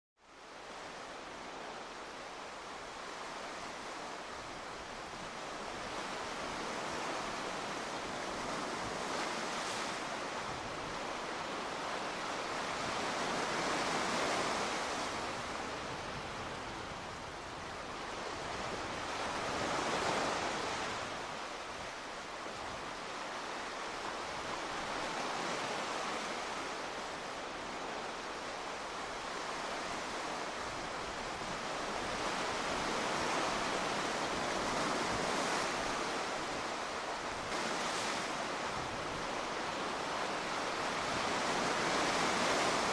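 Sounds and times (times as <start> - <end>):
sea waves washing onto shore: 0.4 - 42.9.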